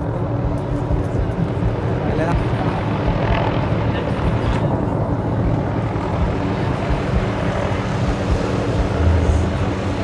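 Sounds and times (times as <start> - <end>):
helicopter running: 0.0 - 10.0.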